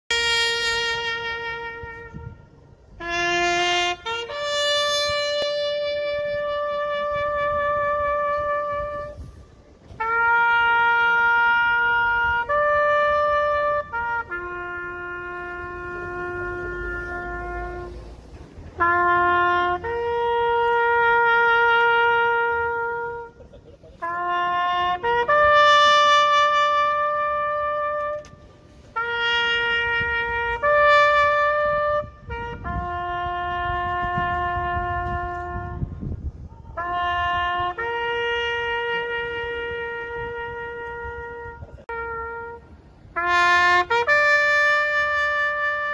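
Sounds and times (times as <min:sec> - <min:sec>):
solo trumpet playing: 0:00.1 - 0:45.9.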